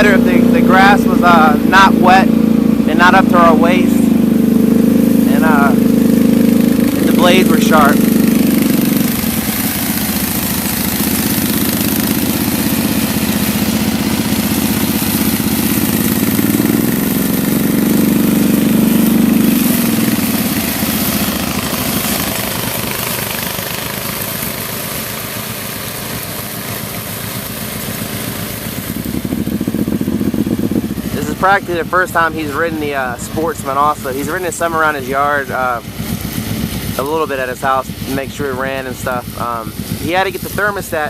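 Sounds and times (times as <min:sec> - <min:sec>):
four-wheeler engine droning: 0:00.0 - 0:41.0.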